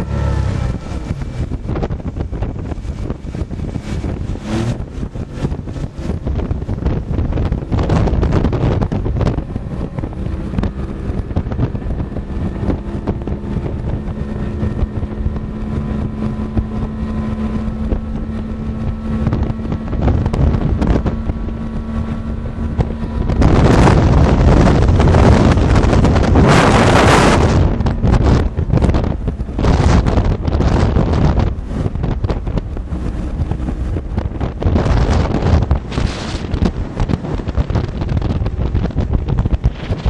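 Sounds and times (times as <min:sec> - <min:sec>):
outboard motor running: 0:00.0 - 0:40.0
wind buffeting microphone: 0:00.0 - 0:40.0.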